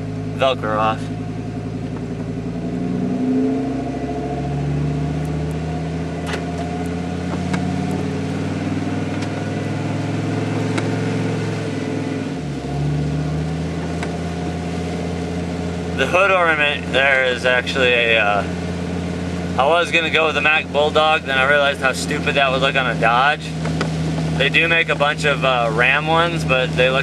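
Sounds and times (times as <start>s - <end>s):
truck engine from inside cab: 0.0s - 27.0s.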